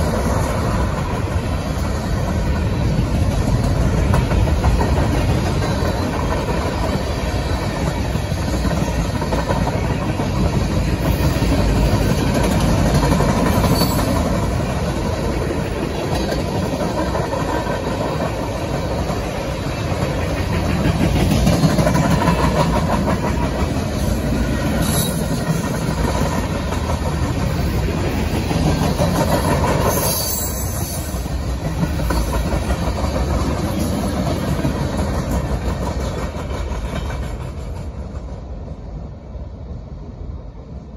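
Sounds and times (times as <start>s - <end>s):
steel wheels clattering on rail: 0.0s - 39.0s.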